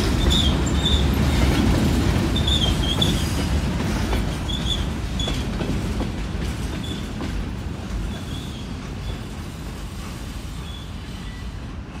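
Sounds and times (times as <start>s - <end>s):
freight train cars rumbling: 0.0s - 12.0s.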